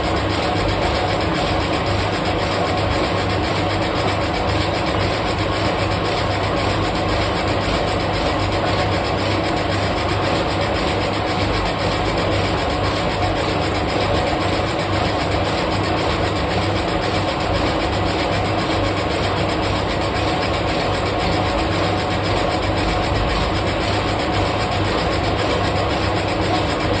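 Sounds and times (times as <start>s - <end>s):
lathe motor hum: 0.0s - 27.0s.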